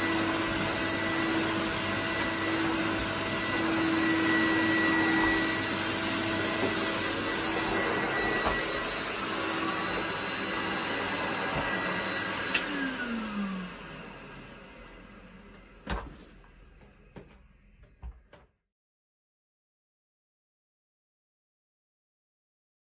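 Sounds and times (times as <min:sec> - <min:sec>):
vacuum cleaner running: 0:00.0 - 0:18.4.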